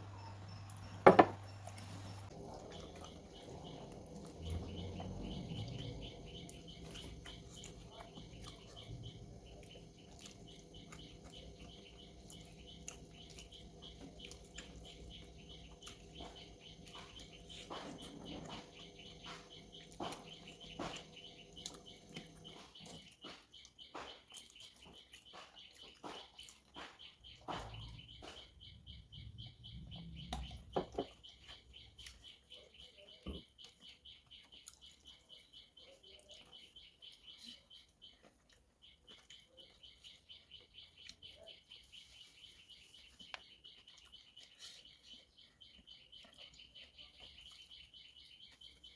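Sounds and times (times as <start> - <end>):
faint high chirping: 0.0 - 26.2, 26.8 - 48.9
wet chewing: 0.0 - 28.6, 33.4 - 35.5, 36.2 - 41.4, 43.1 - 47.7.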